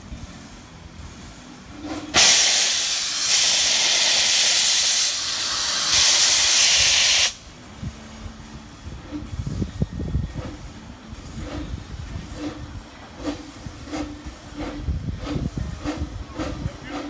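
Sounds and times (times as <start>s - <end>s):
steam locomotive venting hiss: 0.0s - 17.0s.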